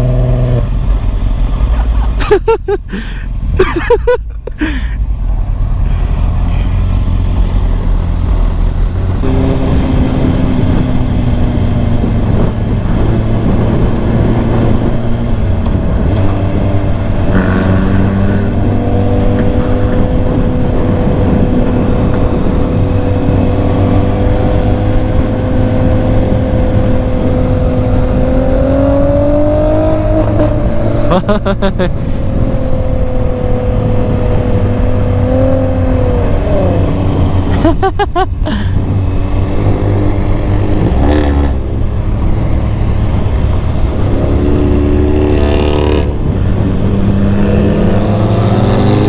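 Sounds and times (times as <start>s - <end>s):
wind rush: 5.3s - 31.1s, 31.7s - 49.0s.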